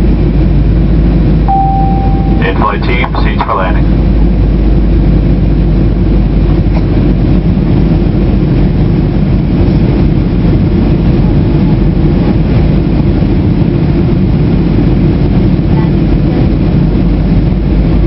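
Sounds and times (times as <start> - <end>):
airliner cabin noise: 0.0 - 18.0.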